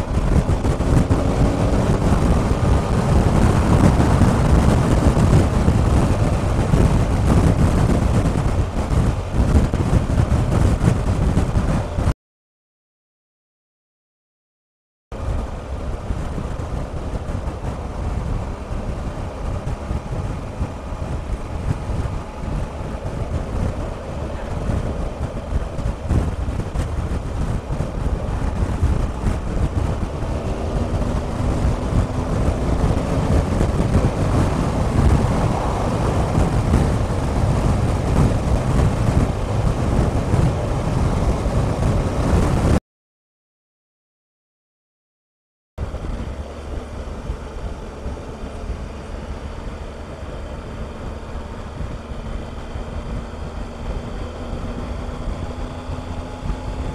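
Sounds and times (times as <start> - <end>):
motorcycle engine running: 0.0 - 12.1, 15.2 - 42.8, 45.8 - 56.9
wind buffeting microphone: 0.0 - 12.1, 15.2 - 42.8, 45.8 - 56.9.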